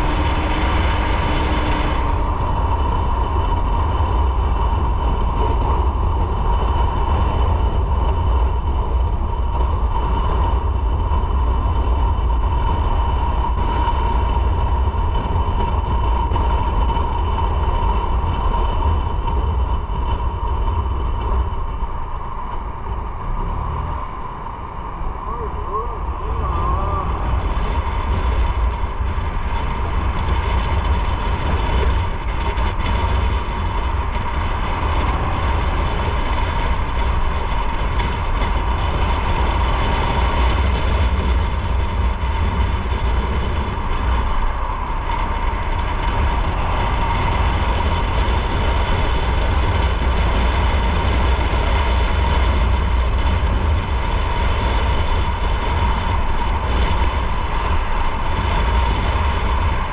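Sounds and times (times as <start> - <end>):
motorcycle engine drone: 0.0 - 59.9
road rumble: 0.0 - 59.9
wind: 0.0 - 59.9.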